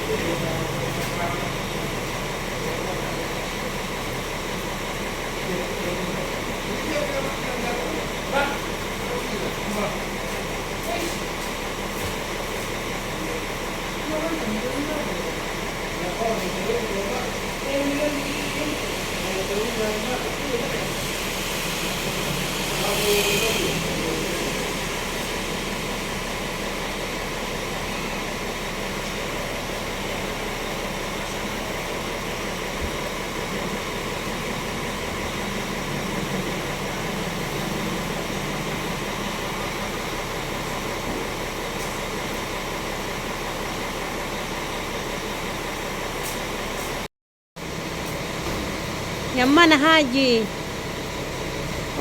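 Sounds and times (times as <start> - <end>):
bus engine idling: 0.0 - 52.0.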